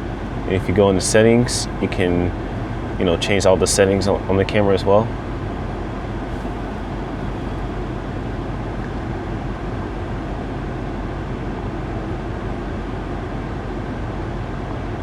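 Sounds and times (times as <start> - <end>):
car engine idling: 0.0 - 13.1
climate fan blowing: 0.0 - 15.0.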